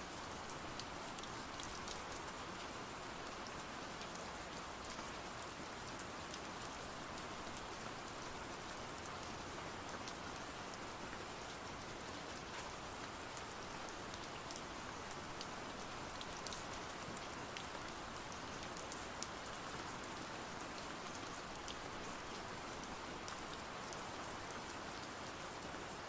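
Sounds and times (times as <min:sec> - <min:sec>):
steady rain: 0:00.0 - 0:26.0
rain drops ticking: 0:00.1 - 0:26.0.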